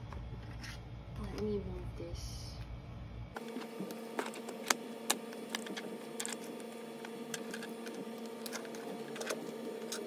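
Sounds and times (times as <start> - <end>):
background hum: 0.0 - 10.0.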